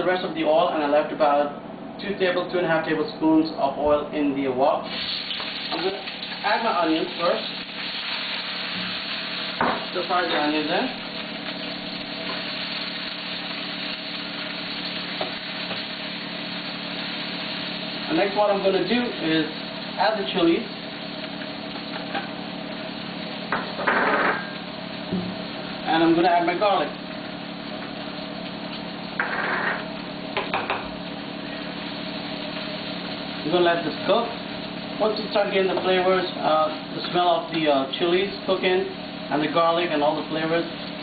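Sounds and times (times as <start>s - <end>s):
steady hum: 0.0s - 41.0s
stir-frying rush of noise: 4.8s - 23.8s, 24.5s - 29.2s, 29.8s - 41.0s
onions sizzling in oil: 4.8s - 41.0s.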